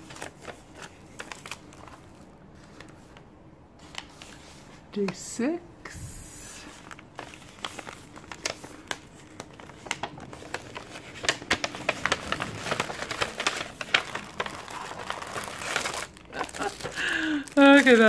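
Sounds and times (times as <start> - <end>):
paper bag rustling and crinkling: 0.0 - 3.2, 3.8 - 5.3, 6.5 - 18.0.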